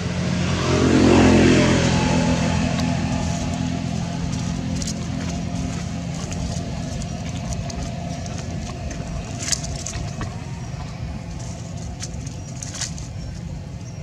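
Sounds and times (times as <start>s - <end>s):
faint hum: 0.0s - 14.0s
low rumble: 0.0s - 14.0s.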